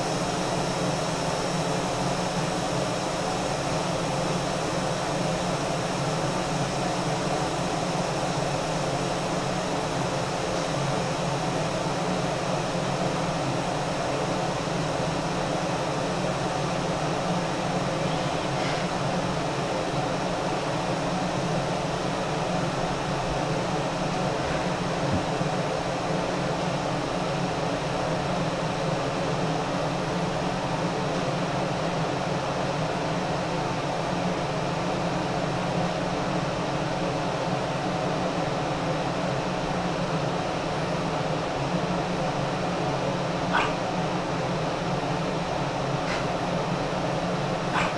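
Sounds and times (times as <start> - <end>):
ventilation fan whooshing: 0.0 - 47.9.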